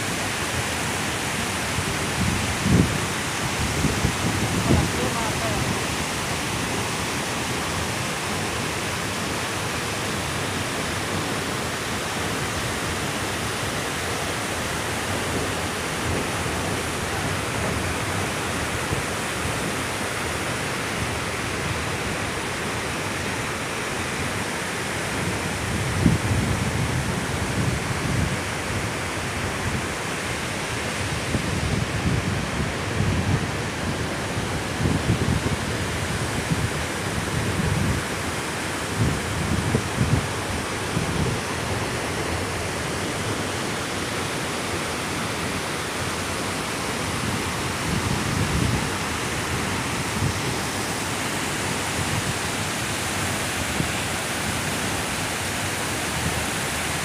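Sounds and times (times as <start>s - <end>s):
water rushing over dam: 0.0s - 57.0s.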